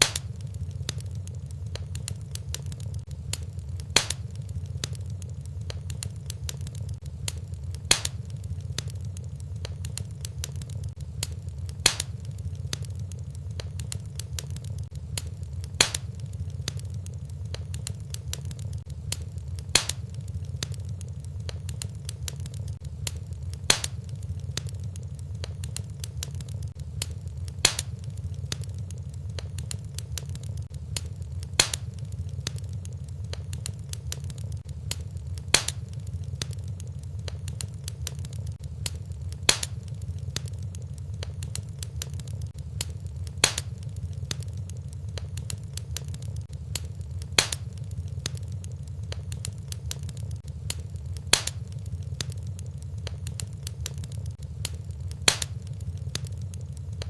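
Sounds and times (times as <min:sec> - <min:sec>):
fire crackling: 0:00.0 - 0:57.0
fire rumbling: 0:00.0 - 0:57.0
sharp pop of burning wood: 0:00.0 - 0:57.0.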